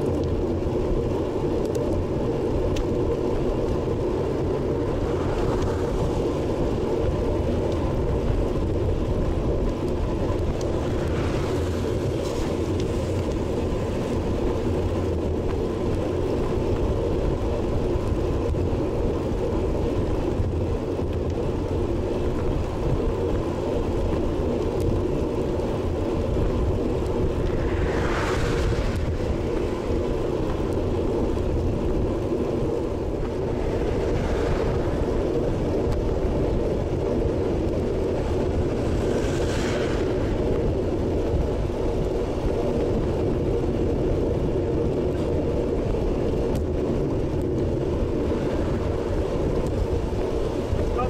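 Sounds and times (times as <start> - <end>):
road rumble: 0.0 - 51.0
wind buffeting microphone: 0.0 - 51.0.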